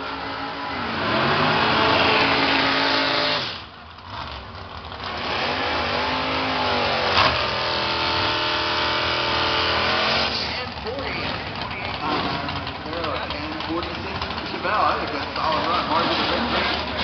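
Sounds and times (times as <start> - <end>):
race car engines revving: 0.0 - 17.0
dragster engine running: 0.1 - 17.0.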